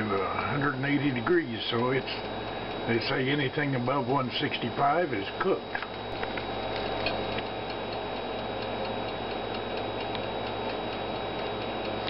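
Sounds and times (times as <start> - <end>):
background hum: 0.0 - 12.0
toaster oven ticking: 0.0 - 12.0.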